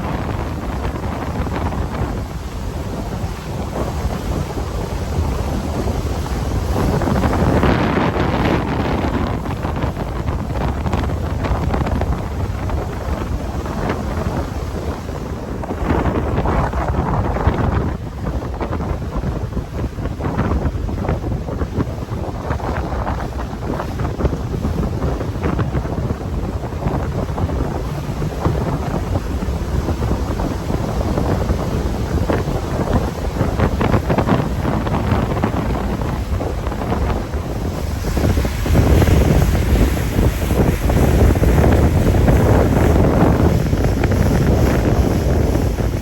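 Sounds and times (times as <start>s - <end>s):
water rushing past boat: 0.0s - 46.0s
wind buffeting microphone: 0.0s - 46.0s.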